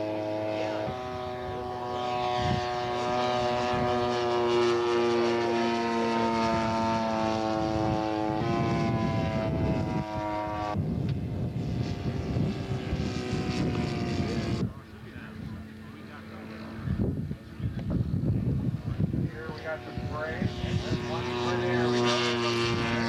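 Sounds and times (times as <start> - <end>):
model airplane engine drone: 0.0 - 23.0.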